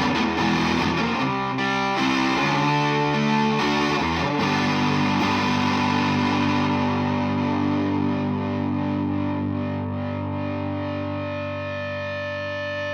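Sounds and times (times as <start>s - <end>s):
distorted electric guitar chord: 0.0s - 12.9s.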